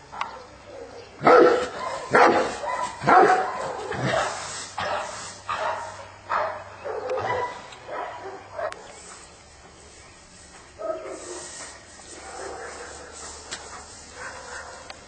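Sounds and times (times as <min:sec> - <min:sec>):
dog barking: 0:00.2 - 0:08.8, 0:10.8 - 0:11.5, 0:12.2 - 0:15.0.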